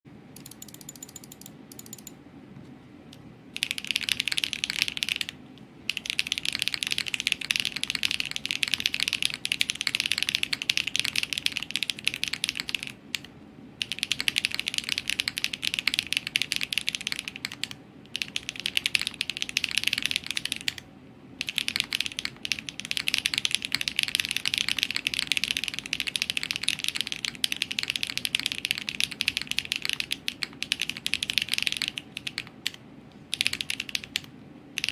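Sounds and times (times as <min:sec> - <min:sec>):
fast mechanical keyboard typing: 0:00.4 - 0:02.1, 0:03.6 - 0:20.8, 0:21.4 - 0:34.9.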